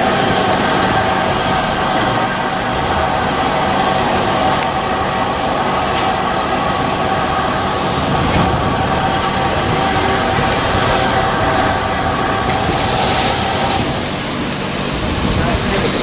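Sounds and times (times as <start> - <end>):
train rolling on rails: 0.0 - 16.0.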